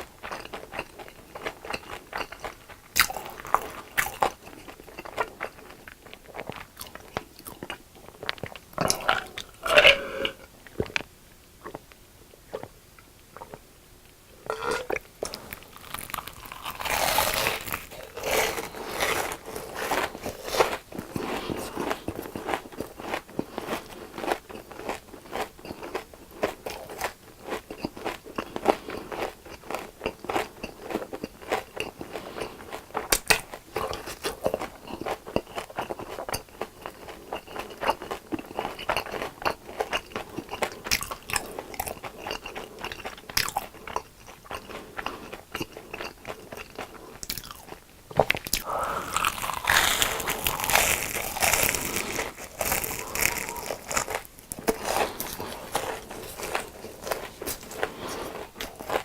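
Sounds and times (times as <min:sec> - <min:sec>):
crunching and chewing fried food: 0:00.0 - 0:59.0.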